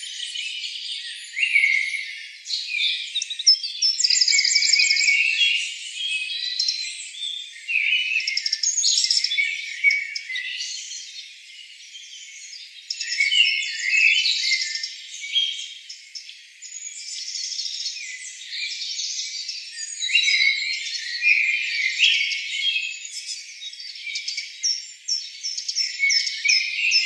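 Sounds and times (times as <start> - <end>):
small birds chirping and singing: 0.0 - 27.0.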